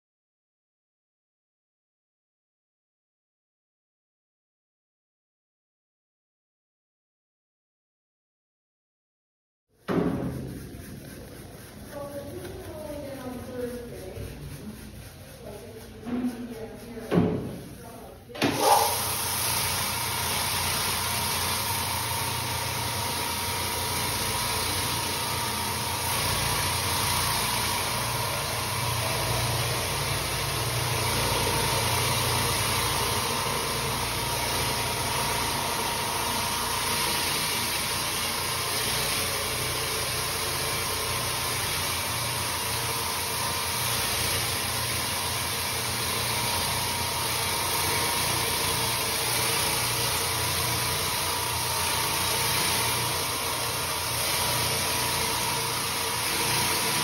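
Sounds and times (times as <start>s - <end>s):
pad scrubbing wet floor: 9.8s - 57.0s
floor scrubber motor humming: 9.9s - 57.0s.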